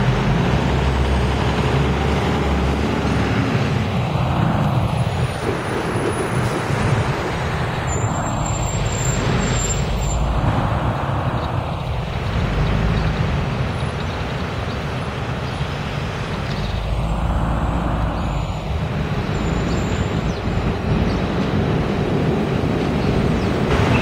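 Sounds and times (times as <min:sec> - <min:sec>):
city traffic noise: 0:00.0 - 0:24.0
diesel coach engine running: 0:00.0 - 0:24.0.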